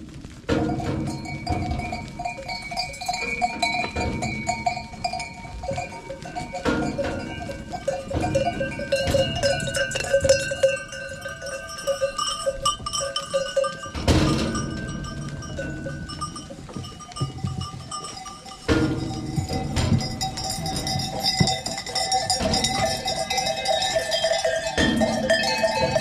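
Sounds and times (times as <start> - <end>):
livestock bells jingling and clanking: 0.5 - 26.0
sudden bell clatter: 0.5 - 26.0.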